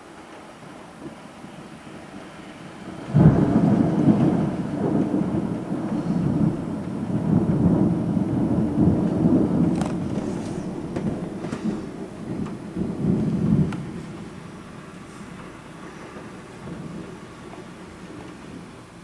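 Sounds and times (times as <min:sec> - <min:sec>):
rain falling: 0:00.0 - 0:19.0
thunder clap and rumble: 0:00.6 - 0:18.8.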